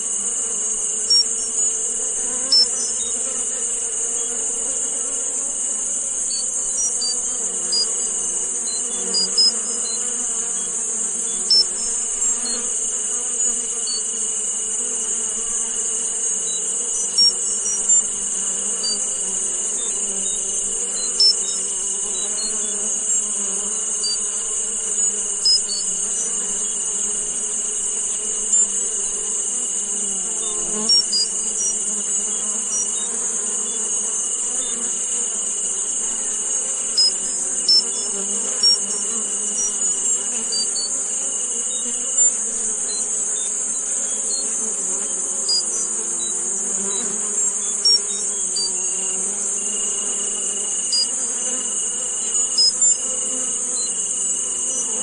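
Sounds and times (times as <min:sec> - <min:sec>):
dense high-pitched hiss: 0:00.0 - 0:55.0.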